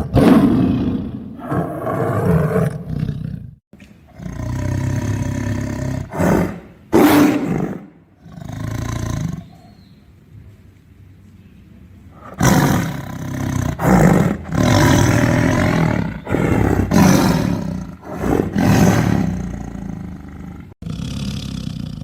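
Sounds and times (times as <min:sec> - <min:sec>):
tiger roaring: 0:00.0 - 0:09.7, 0:12.1 - 0:22.0.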